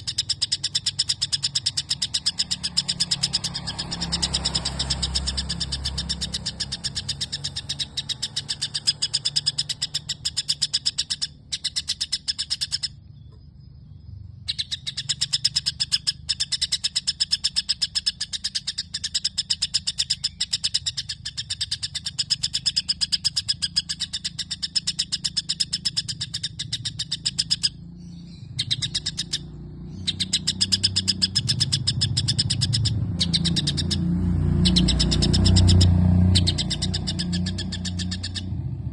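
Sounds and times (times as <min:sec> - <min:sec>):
bird singing rapid chirps: 0:00.0 - 0:38.9.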